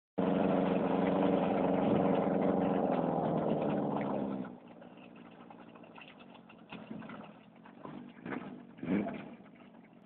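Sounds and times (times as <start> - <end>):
small boat engine running: 0.2 - 8.6.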